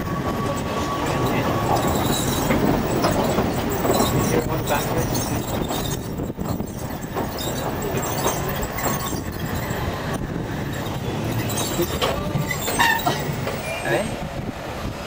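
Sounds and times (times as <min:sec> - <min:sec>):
train running on rails: 0:00.0 - 0:15.0
irregular rail clicks: 0:00.3 - 0:13.8.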